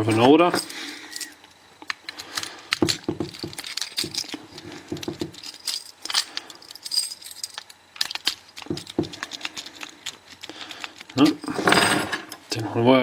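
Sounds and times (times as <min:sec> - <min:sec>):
lock discs rattling: 0:01.2 - 0:11.8.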